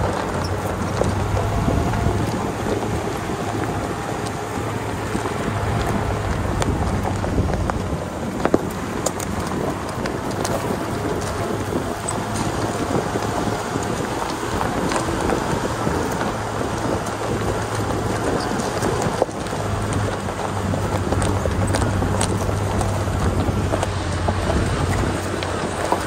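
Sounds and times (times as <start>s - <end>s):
diesel engine droning: 0.0s - 26.0s
rattling and crackling: 0.0s - 26.0s.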